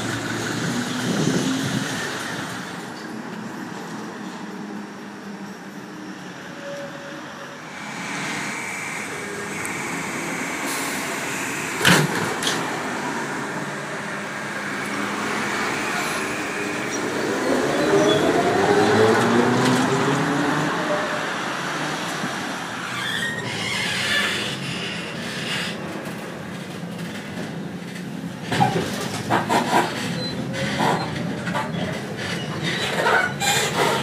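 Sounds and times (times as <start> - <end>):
traffic noise: 0.0 - 34.0.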